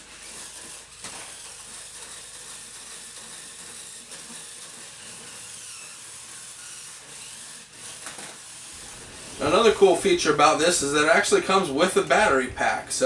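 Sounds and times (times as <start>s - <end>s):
toy car motors whirring: 0.0s - 12.3s
rubber wheels rolling on wooden floor: 0.0s - 12.7s.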